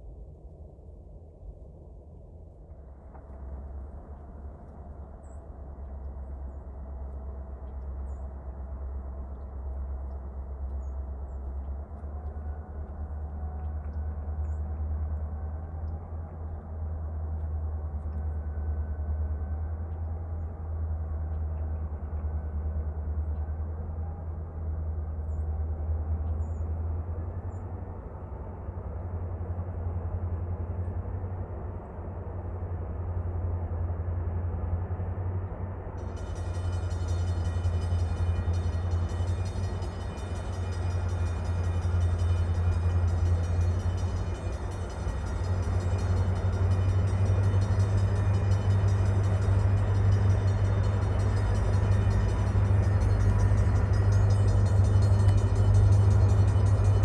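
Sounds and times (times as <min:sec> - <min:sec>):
diesel train engine rumble: 0:02.3 - 0:57.0.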